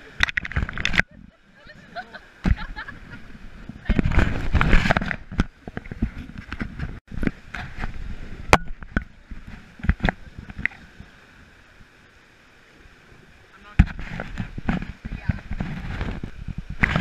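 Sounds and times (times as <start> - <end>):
splashing water rush: 0.0 - 17.0.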